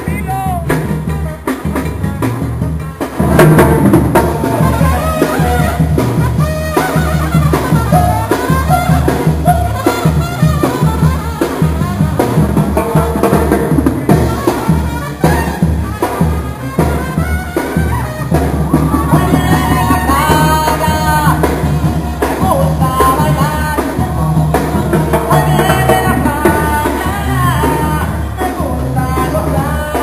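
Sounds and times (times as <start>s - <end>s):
drums: 0.0s - 30.0s
trumpets: 0.0s - 30.0s
tuba bass line: 0.0s - 30.0s.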